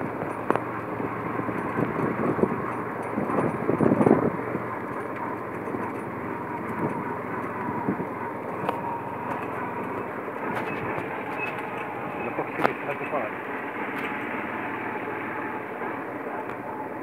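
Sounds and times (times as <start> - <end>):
motorcycle running: 0.0 - 17.0
tyre and road noise on dirt: 0.0 - 17.0.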